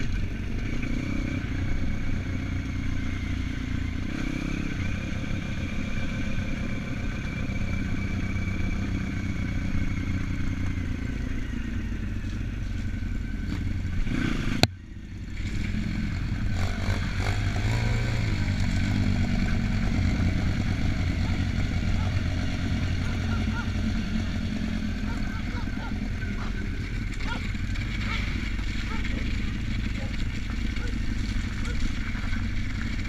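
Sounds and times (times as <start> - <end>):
motorbike engine running: 0.0 - 33.0.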